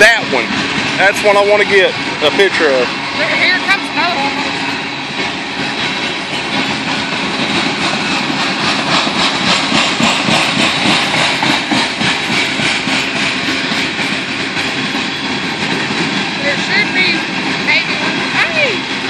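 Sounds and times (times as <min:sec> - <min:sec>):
freight cars rolling on rails: 0:00.0 - 0:19.0
wheels clicking on rails: 0:00.0 - 0:19.0.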